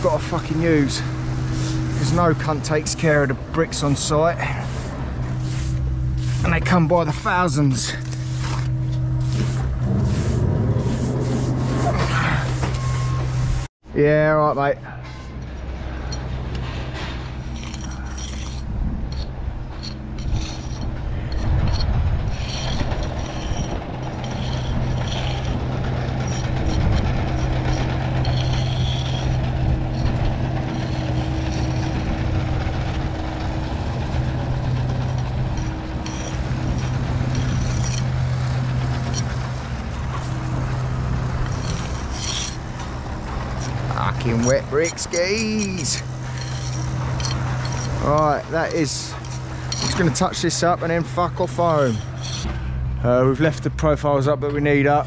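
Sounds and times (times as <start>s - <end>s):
diesel engine droning: 0.0s - 55.0s
brick jointer scraping mortar: 2.0s - 12.9s, 15.2s - 52.5s.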